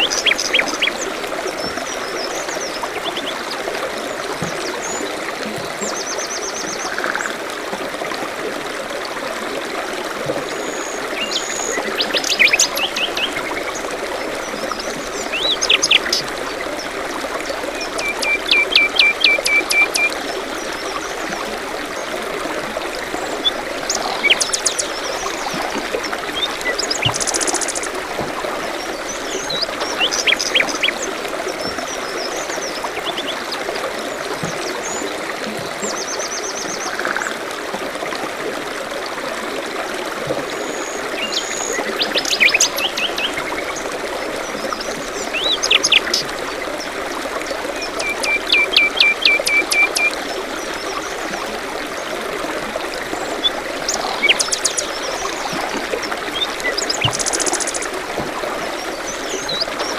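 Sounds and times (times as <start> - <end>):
stream running: 0.0 - 59.9.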